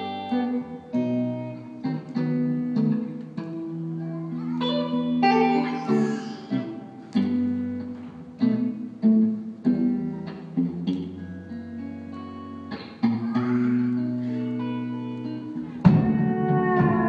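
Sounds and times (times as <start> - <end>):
instrumental rock band: 0.0 - 17.0
plucked guitar notes: 0.0 - 17.0.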